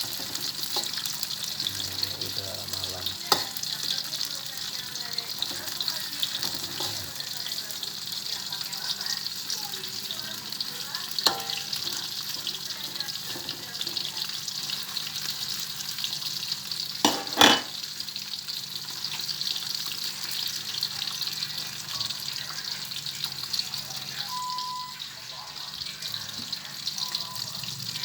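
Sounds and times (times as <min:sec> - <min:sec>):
food frying in hot oil: 0:00.0 - 0:28.0.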